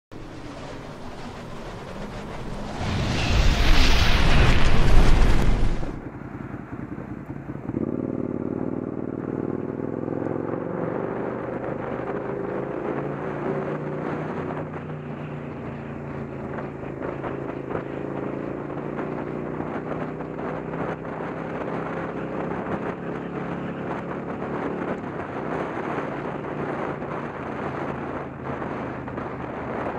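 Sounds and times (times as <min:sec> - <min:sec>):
motorcycle engine accelerating: 0:00.2 - 0:29.9.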